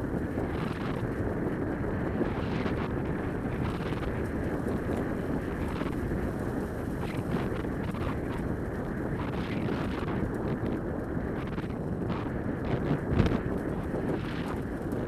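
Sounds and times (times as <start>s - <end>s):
dog sled rolling rumble: 0.0s - 15.0s
wind on microphone: 0.0s - 15.0s.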